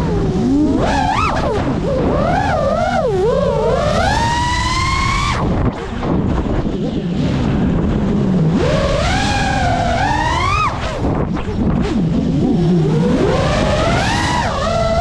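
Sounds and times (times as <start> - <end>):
drone motors whining: 0.0 - 15.0
wind rumble: 0.0 - 15.0.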